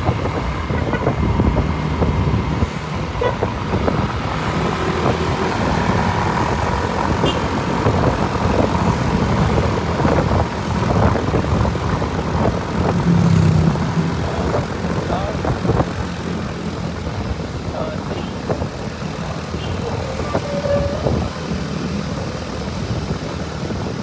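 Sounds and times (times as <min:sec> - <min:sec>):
motor vehicles passing: 0:00.0 - 0:24.0.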